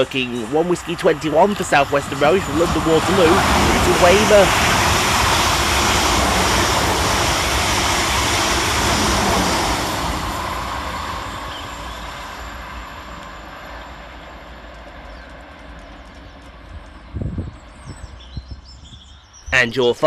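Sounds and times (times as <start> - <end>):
train wheels rushing on rails: 0.0 - 18.7.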